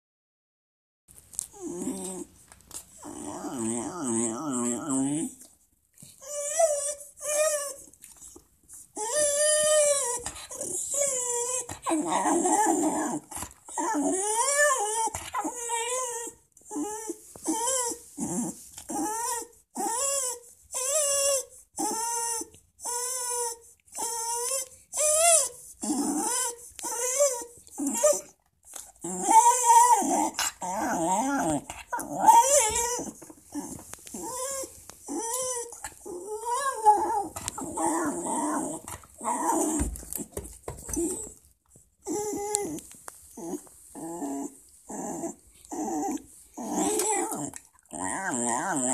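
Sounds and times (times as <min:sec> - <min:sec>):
dog whining and yowling: 0:01.5 - 0:48.9.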